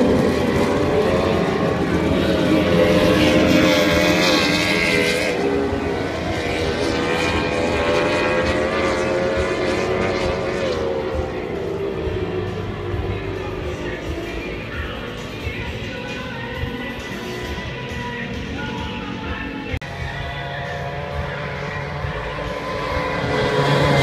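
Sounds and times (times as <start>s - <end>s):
powerboat engines at high revs: 0.0s - 24.0s.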